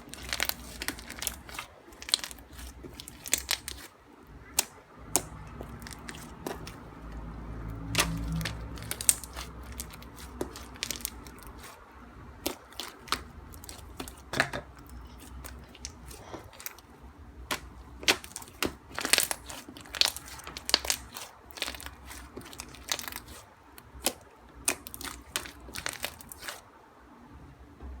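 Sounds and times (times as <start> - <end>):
crunchy slime clicks and crackles: 0.0 - 3.9, 4.5 - 6.8, 7.8 - 11.8, 12.4 - 16.9, 17.5 - 26.6.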